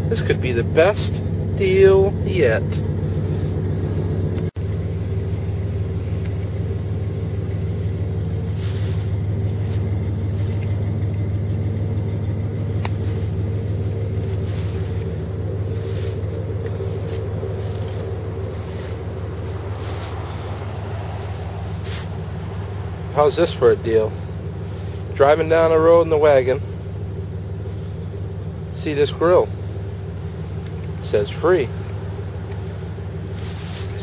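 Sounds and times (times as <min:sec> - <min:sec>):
car engine drone: 0:00.0 - 0:34.0
road noise: 0:00.0 - 0:34.0.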